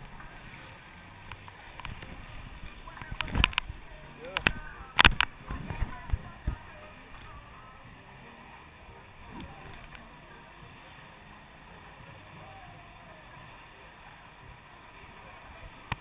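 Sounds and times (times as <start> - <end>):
faint voices: 0.0 - 16.0
water rushing down slide: 0.0 - 16.0.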